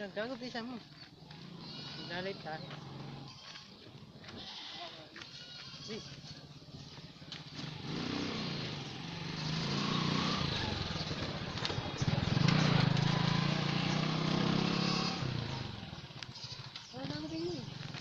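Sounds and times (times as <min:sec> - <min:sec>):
small motorcycle engine passing: 0:00.0 - 0:18.0.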